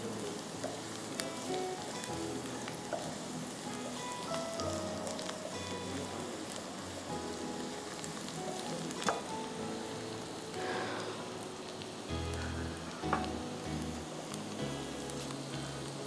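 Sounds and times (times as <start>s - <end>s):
onions sizzling in oil: 0.0s - 16.0s
soft background music: 0.0s - 16.0s.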